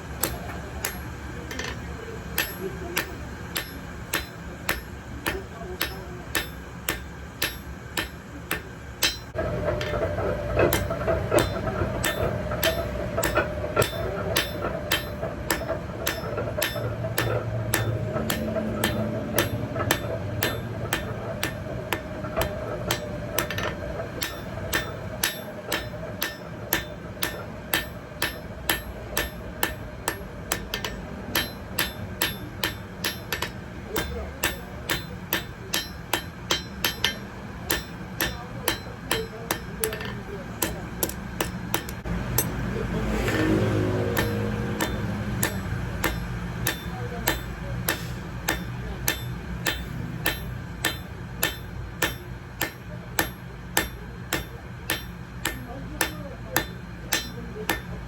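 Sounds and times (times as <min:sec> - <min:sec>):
hammer striking metal: 0:00.0 - 0:58.0
steady hum: 0:00.0 - 0:58.0.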